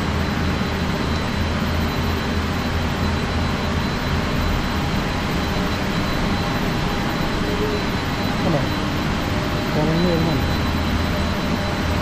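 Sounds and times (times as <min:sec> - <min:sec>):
cable car drive machinery humming: 0:00.0 - 0:12.0.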